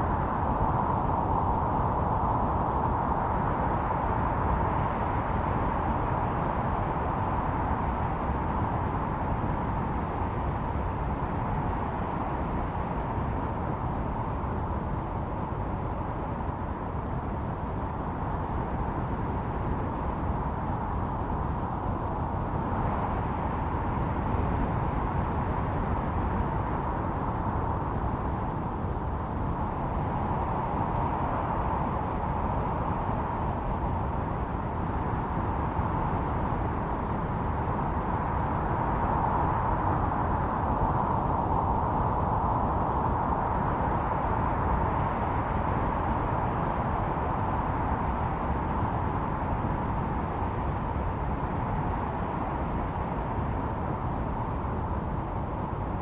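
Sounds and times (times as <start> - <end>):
blizzard wind howling: 0.0 - 56.0.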